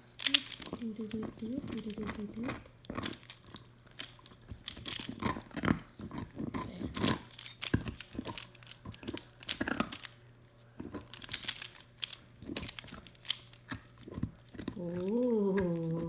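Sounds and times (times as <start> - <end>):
plastic puzzle pieces clicking: 0.2 - 10.2, 10.8 - 16.0.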